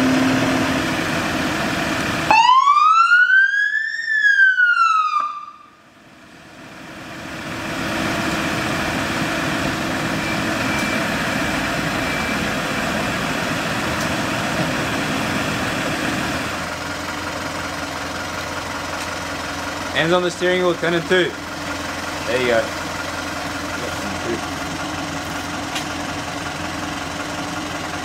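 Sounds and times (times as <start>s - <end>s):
vehicle engine running: 0.0s - 2.4s, 5.8s - 28.0s.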